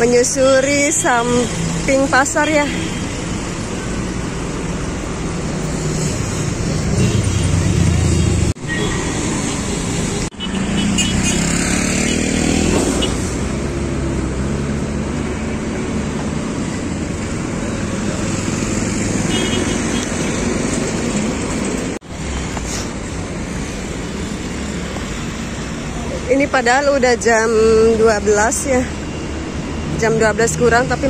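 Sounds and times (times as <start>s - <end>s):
cars and motorcycles passing: 0.0s - 31.0s.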